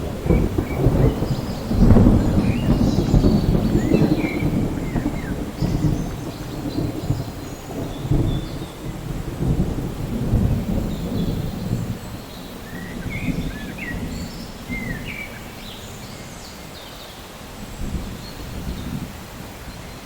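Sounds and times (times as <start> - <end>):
rolling thunder: 0.0 - 16.3
rain hiss: 0.0 - 20.0.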